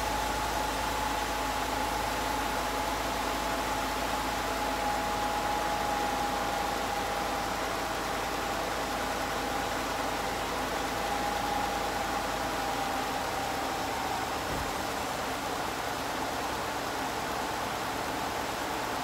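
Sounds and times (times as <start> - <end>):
steady whine: 0.0 - 19.0
truck engine idling: 0.0 - 19.0.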